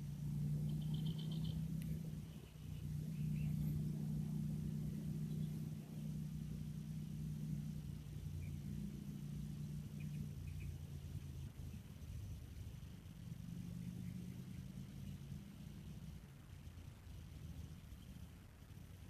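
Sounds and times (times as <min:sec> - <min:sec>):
faint bird chirps: 0:00.0 - 0:18.5
vehicle engine humming: 0:00.0 - 0:19.0.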